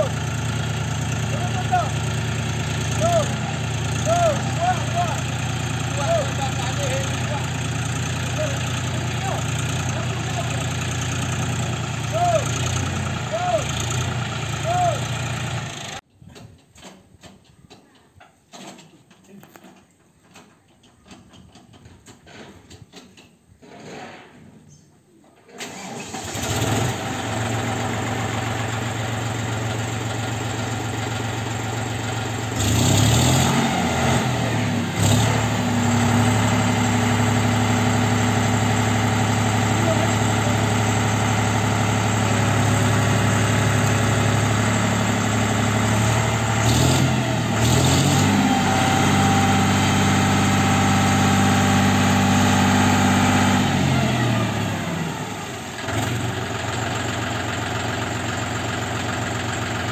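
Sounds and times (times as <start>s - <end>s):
tractor diesel engine revving: 0.0s - 16.0s, 25.6s - 59.9s.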